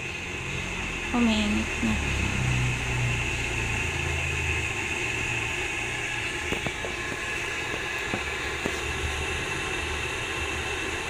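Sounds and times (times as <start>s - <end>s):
kettle heating water hiss: 0.0s - 11.0s.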